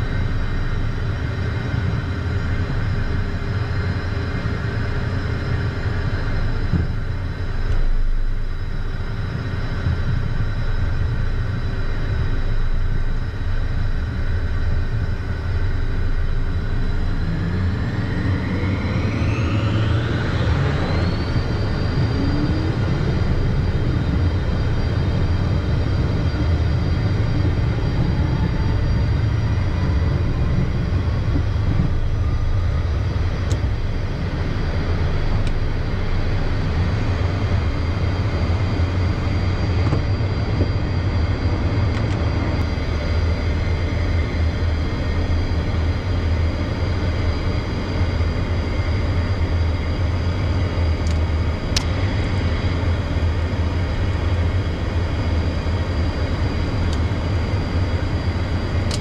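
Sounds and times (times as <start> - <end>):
jet engine low rumble: 0.0 - 59.0
jet engine whine rising: 0.0 - 59.0.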